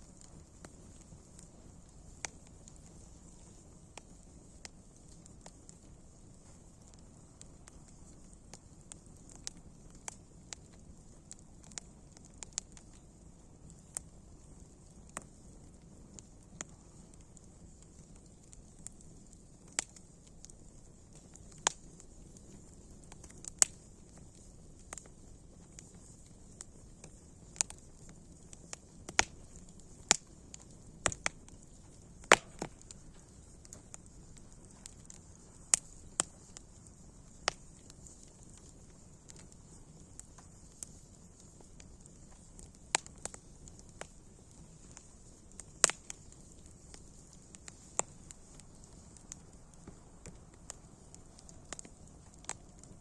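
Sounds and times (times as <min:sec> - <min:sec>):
campfire wood crackling: 0:00.0 - 0:53.0
faint steady hiss: 0:00.0 - 0:53.0.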